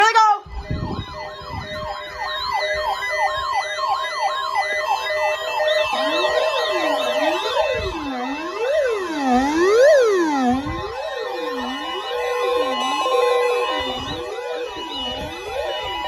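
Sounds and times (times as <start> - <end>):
wailing siren: 0.0 - 16.0
yelping warble siren: 0.0 - 16.0.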